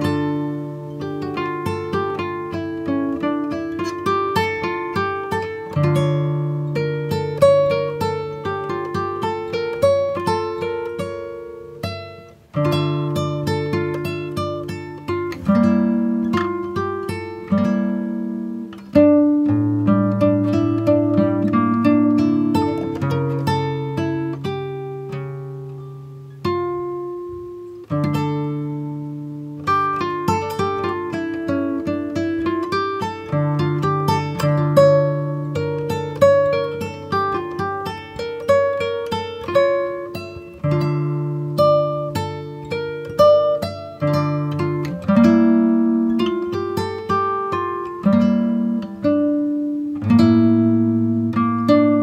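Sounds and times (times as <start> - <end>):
plucked acoustic guitar: 0.0 - 52.0.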